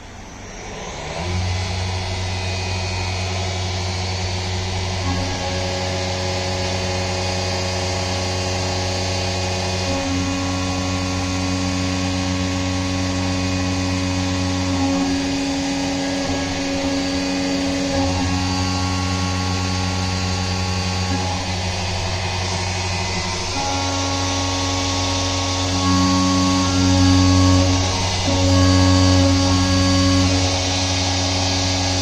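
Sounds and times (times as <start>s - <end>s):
milling machine whine: 0.0s - 32.0s.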